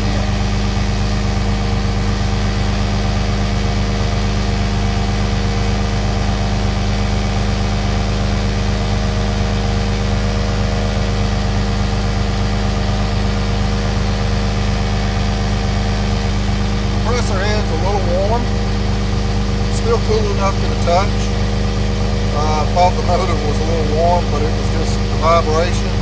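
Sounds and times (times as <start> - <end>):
diesel engine idling: 0.0 - 26.0
portable air compressor running: 0.0 - 26.0.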